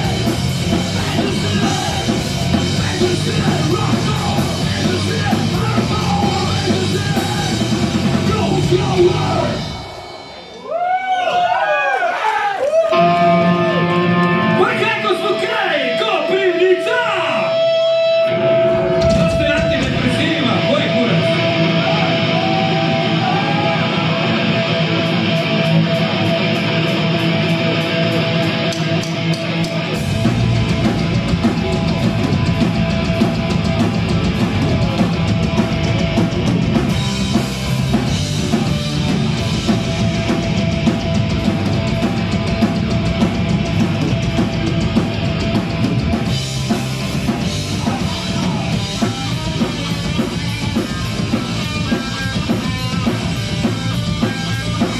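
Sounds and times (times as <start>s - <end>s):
band low end: 0.0s - 10.7s, 17.4s - 54.9s
electric guitar: 0.0s - 10.7s, 12.6s - 54.9s
drum kit: 0.0s - 11.8s, 16.9s - 54.9s.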